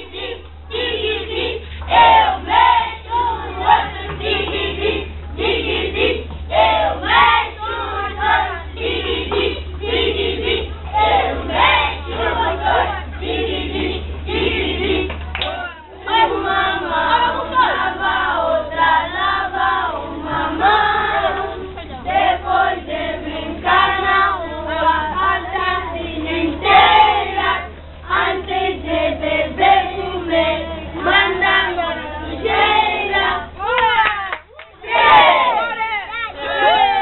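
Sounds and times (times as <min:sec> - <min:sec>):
children singing in chorus: 0:00.0 - 0:15.2, 0:15.9 - 0:33.6
steady low hum: 0:00.0 - 0:37.0.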